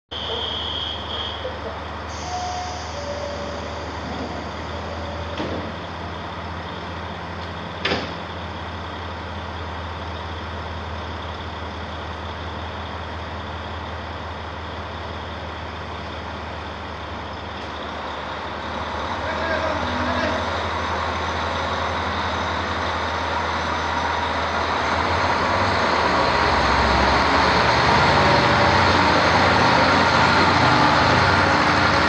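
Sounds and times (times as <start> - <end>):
diesel engine idling: 0.1 - 32.0.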